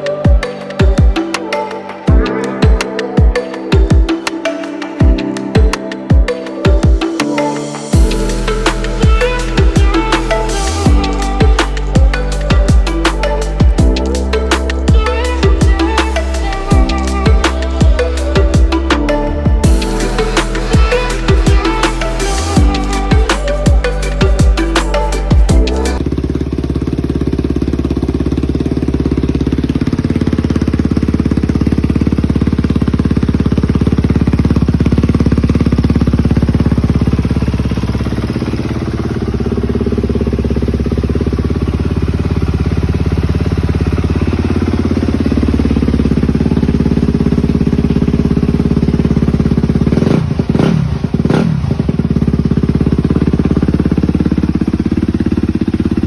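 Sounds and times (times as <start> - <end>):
motorcycle engine running and revving: 8.0 - 56.0.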